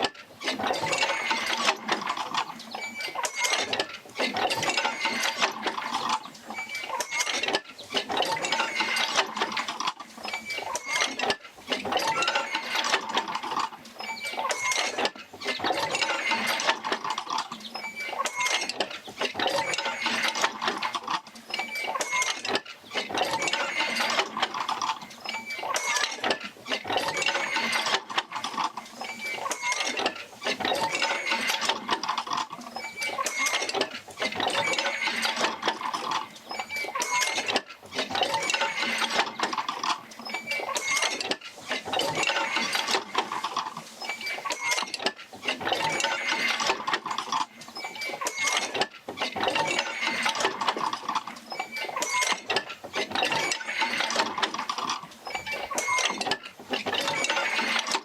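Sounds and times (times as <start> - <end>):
metal squeaking and clanking: 0.0 - 58.0.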